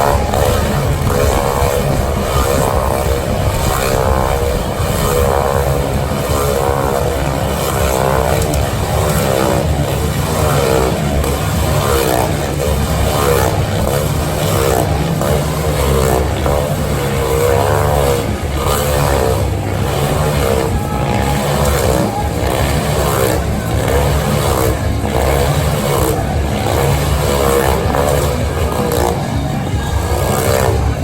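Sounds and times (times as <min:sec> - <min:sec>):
vehicle engines revving: 0:00.0 - 0:31.0.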